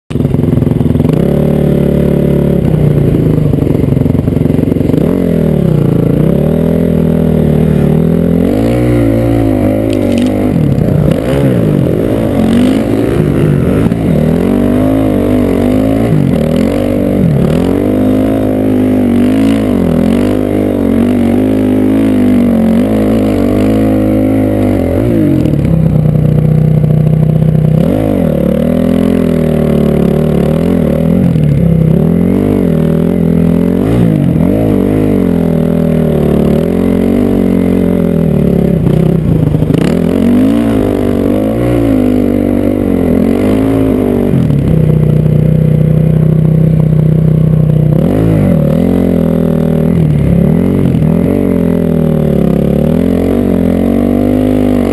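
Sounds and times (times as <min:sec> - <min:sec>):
dirt bike engine revving: 0:00.1 - 0:54.9.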